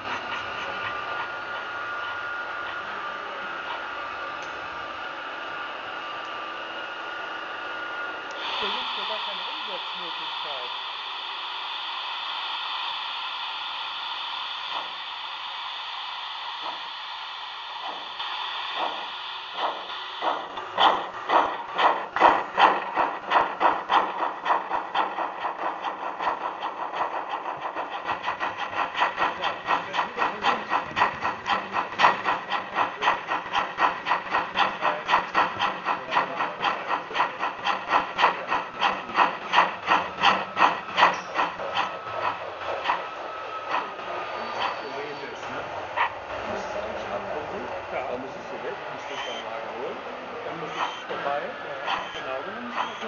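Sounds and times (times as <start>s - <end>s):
steam hiss: 0.0s - 4.3s, 6.6s - 53.0s
steam locomotive chuffing: 0.0s - 53.0s.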